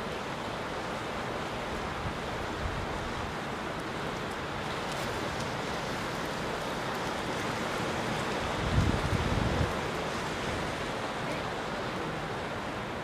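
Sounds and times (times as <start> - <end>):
sea surf washing over rocks: 0.0 - 13.0.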